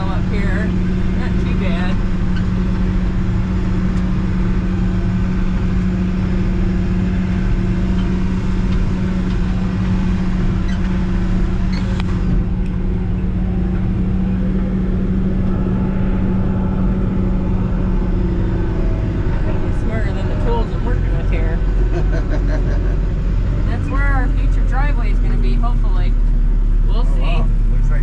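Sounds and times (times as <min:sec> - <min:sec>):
diesel engine hum from cab: 0:00.0 - 0:28.0.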